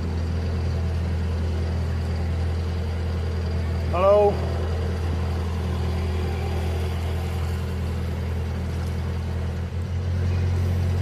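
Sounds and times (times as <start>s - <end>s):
diesel boat engine droning: 0.0s - 11.0s.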